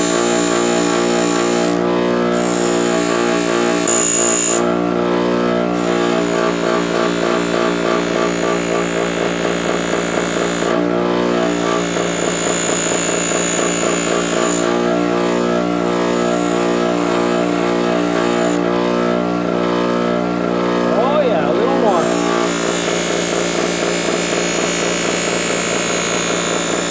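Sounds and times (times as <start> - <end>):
electric sander motor hum: 0.0 - 26.9
metal being sanded: 0.0 - 26.9.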